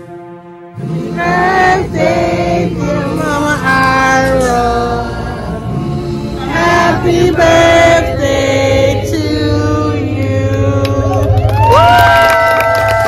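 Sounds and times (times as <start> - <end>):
voices singing long notes: 0.0 - 11.9
steady low bass note: 0.8 - 12.3.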